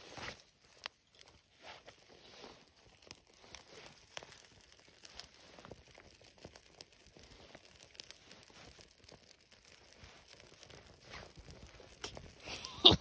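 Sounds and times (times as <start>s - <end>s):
small fire crackling: 0.0s - 13.0s.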